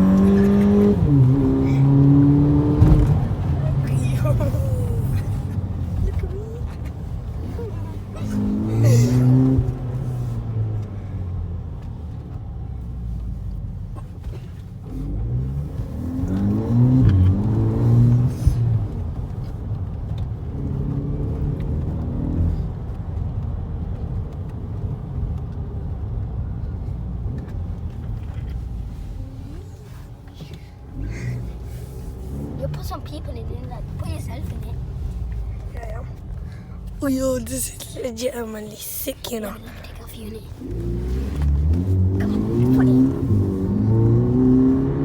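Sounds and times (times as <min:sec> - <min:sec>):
car engine accelerating hard: 0:00.0 - 0:45.0
low rumble of road: 0:00.0 - 0:45.0.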